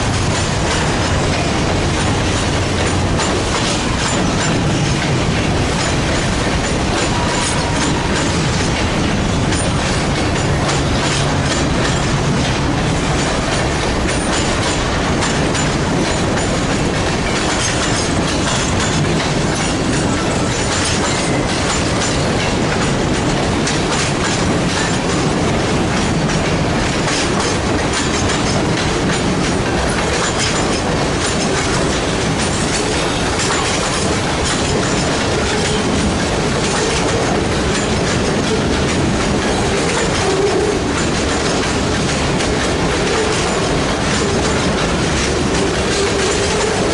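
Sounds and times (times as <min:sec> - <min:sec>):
train wheels clicking over rail joints: 0:00.0 - 0:46.9.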